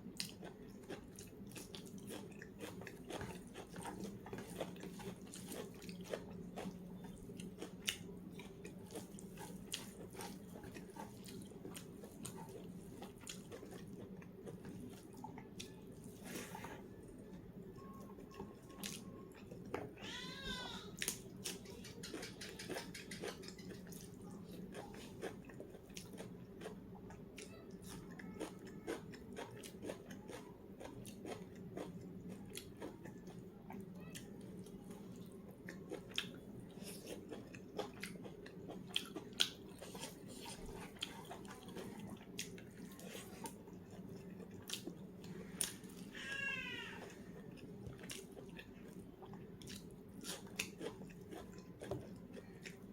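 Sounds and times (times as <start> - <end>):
chewing and mouth smacking: 0.1 - 19.9, 21.0 - 46.1, 47.0 - 52.9.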